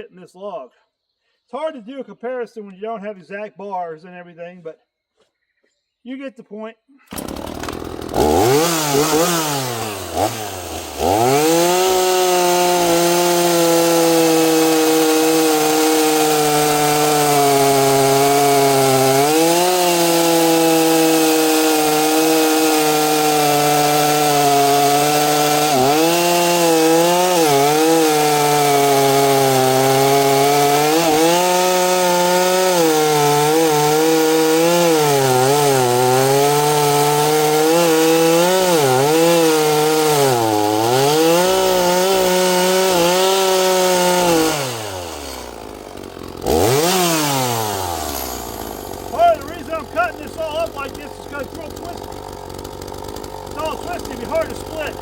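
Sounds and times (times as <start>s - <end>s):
chainsaw cutting log: 7.1s - 55.0s.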